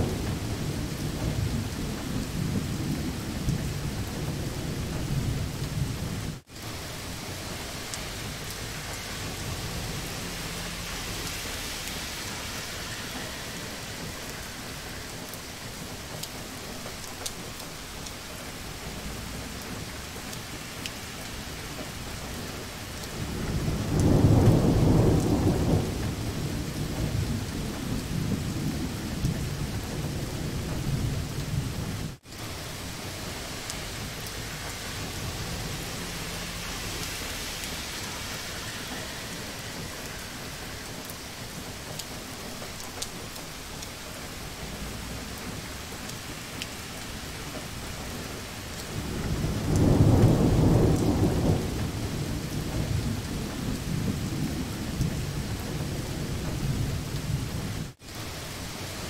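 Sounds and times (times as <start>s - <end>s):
thunder rumbling: 0.0s - 58.4s
heavy rain: 0.0s - 59.0s.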